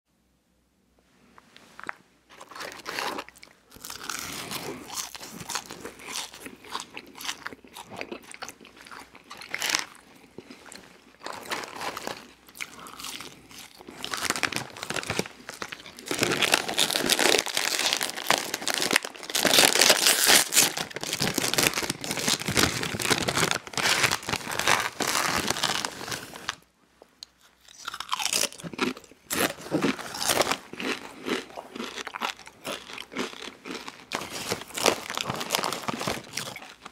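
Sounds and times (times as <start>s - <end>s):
chip bag crinkling: 1.8s - 26.6s, 27.8s - 36.9s
chewing french fries: 2.3s - 23.5s, 27.5s - 36.9s
crunching tortilla chips: 2.3s - 26.6s, 27.6s - 36.9s.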